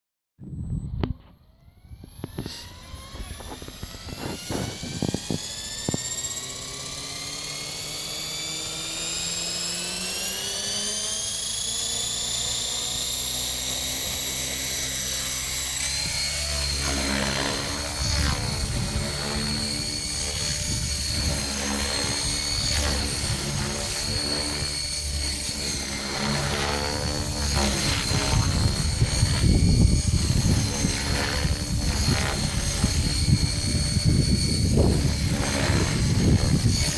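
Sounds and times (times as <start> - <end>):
fluttering rotor rumble: 0.4 - 36.9
helicopter motor and rotor whine: 0.4 - 36.9.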